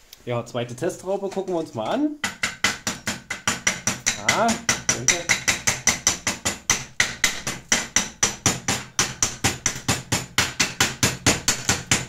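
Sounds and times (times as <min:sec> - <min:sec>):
hammer tapping on metal: 0:01.2 - 0:12.0.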